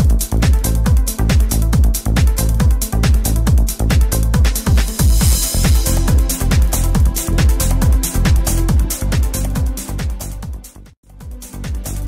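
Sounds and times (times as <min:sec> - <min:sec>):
electronic dance music: 0:00.0 - 0:12.0
steady kick drum: 0:00.0 - 0:12.0.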